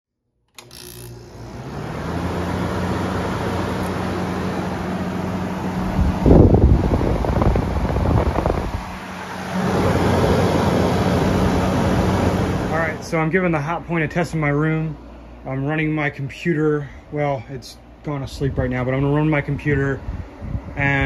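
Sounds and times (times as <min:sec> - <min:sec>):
air conditioner fan blowing: 0:00.5 - 0:21.0.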